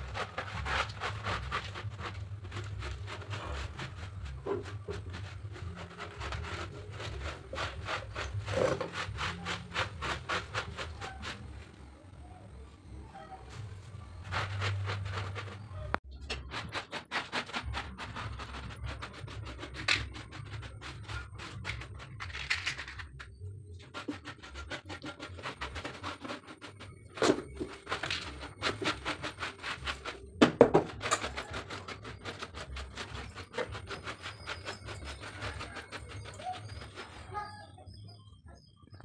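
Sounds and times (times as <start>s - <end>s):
hand scraping concrete floor: 0.0s - 12.2s, 13.0s - 38.7s.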